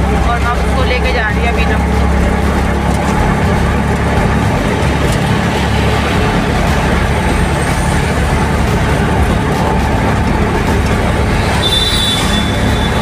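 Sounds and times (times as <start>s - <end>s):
auto-rickshaw engine running: 0.0s - 13.0s
road and traffic noise: 0.0s - 13.0s.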